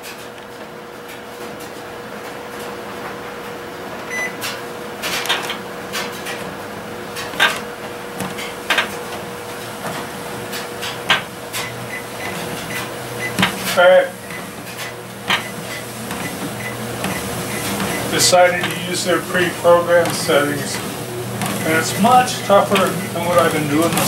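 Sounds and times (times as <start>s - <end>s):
machine hum: 1.8s - 24.0s.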